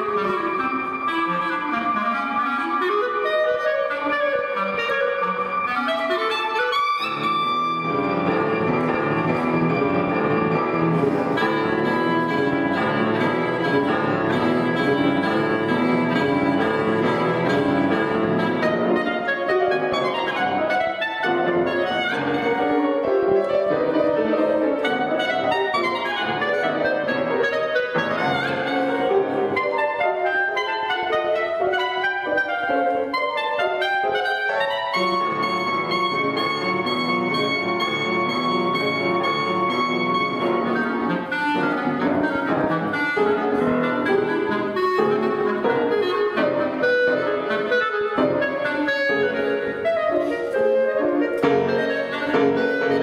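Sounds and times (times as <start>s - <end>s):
clarinet: 0.0s - 53.0s
piano: 0.0s - 53.0s.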